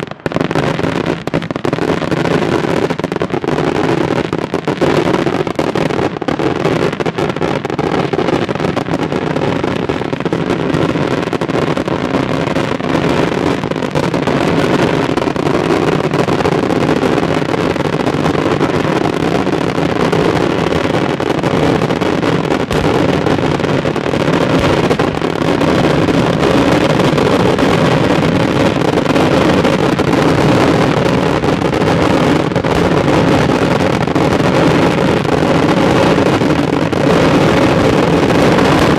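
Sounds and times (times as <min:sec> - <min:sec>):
fireworks banging and crackling: 0:00.0 - 0:38.9.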